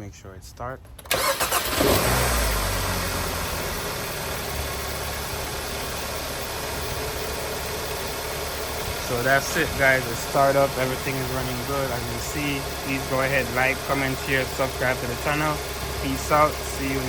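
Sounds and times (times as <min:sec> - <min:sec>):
car engine starting and idling: 0:00.7 - 0:17.0.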